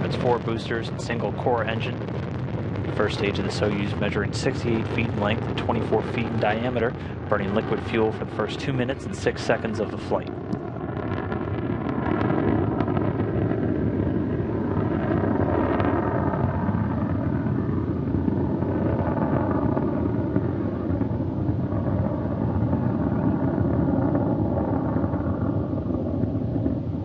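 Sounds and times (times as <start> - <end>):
rocket engines rumbling: 0.0 - 27.0.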